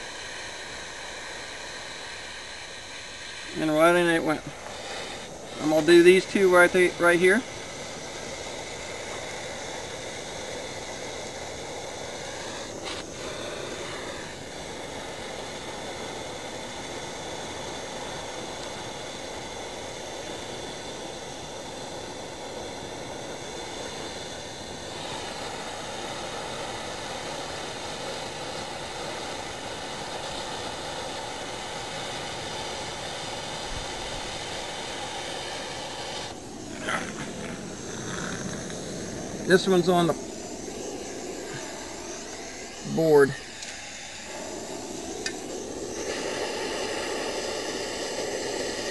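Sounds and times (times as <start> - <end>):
gas torch flame hissing: 0.0 - 48.9.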